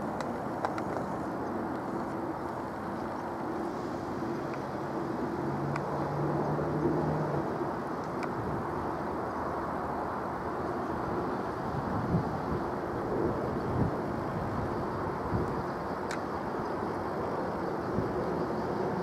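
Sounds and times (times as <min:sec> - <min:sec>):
distant road traffic: 0:00.0 - 0:19.0
jet engine rumble overhead: 0:00.0 - 0:19.0.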